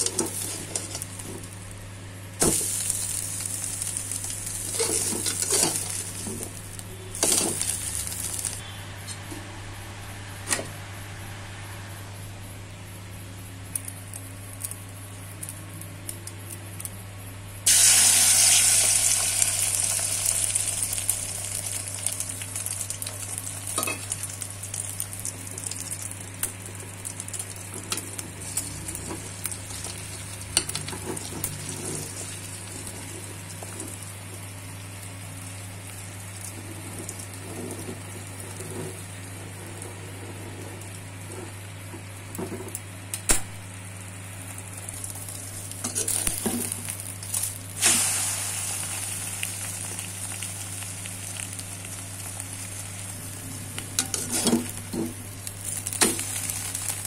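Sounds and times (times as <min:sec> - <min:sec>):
egg sizzling in hot pan: 0:00.0 - 0:08.6, 0:13.7 - 0:16.9, 0:17.6 - 0:57.0.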